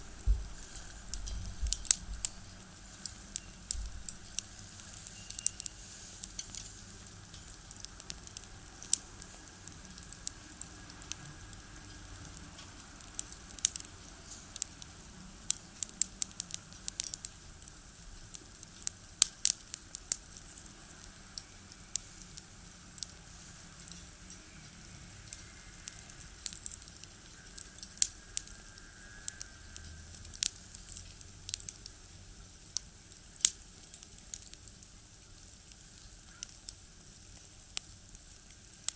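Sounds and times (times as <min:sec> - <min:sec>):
faint steady hiss: 0:00.0 - 0:38.9
firewood crackling and popping: 0:00.0 - 0:38.9.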